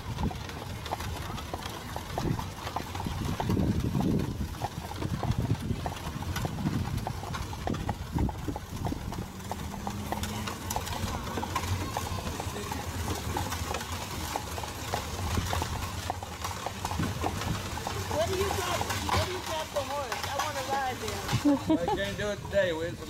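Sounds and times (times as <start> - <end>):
horse hooves clip-clopping on road: 0.0 - 23.0.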